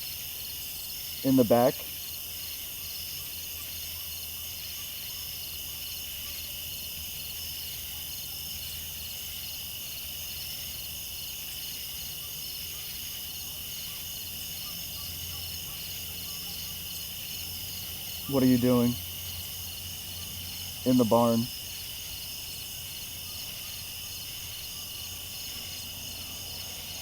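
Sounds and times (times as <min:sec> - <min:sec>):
crickets and insects chirping: 0:00.0 - 0:27.0.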